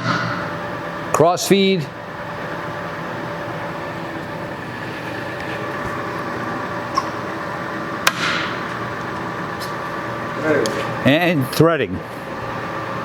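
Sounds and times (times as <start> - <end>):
lathe humming and whining: 0.0 - 8.0, 8.6 - 13.0.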